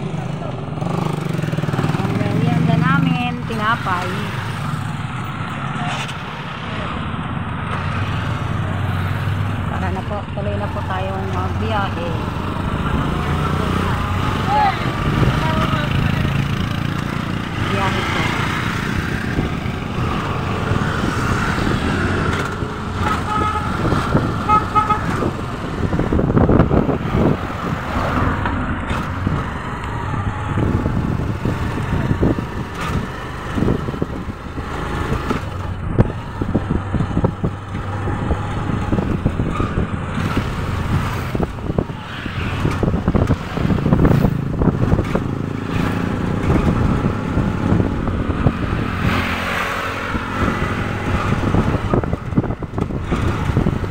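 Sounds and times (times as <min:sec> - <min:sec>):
road and wind noise: 0:00.0 - 0:53.9.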